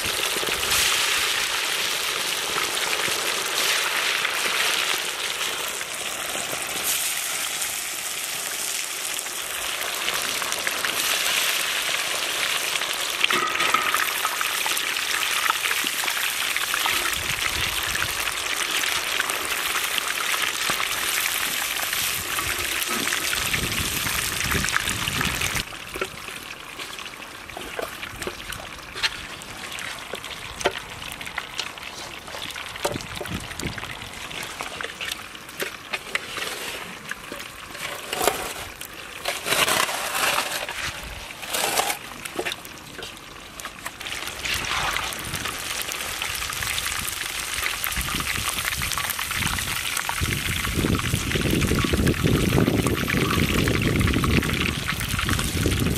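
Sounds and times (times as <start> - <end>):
chicken deep-frying in hot oil: 0.0 - 55.9.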